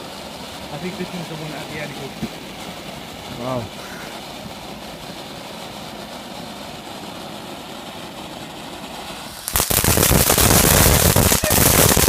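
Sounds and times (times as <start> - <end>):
firework crackling: 0.0 - 12.0
steady rushing noise: 0.0 - 12.0.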